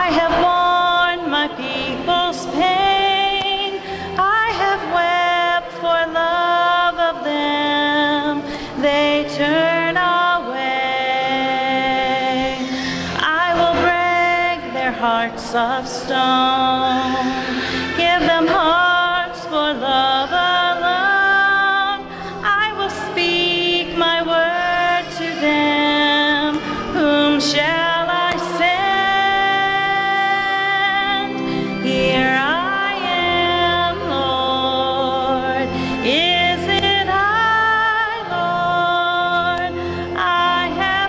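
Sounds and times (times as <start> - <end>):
sustained accompaniment: 0.0 - 41.0
woman singing a hymn: 0.0 - 41.0.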